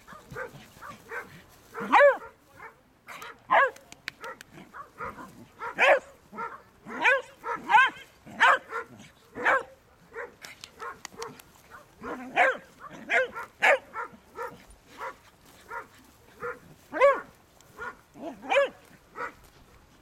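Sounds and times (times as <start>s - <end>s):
small dog barking: 0.0s - 19.4s.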